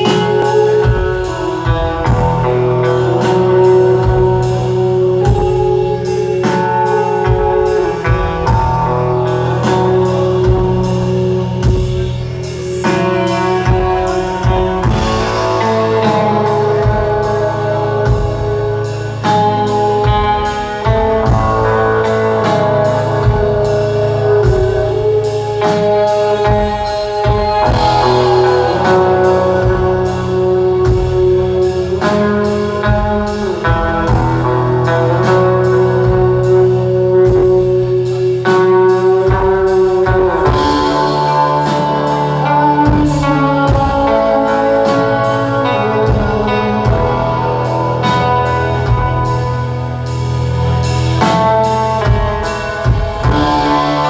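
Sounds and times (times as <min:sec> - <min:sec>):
bass guitar: 0:00.0 - 0:54.0
electric guitar chords: 0:00.0 - 0:54.0
steady drum beat: 0:00.0 - 0:54.0.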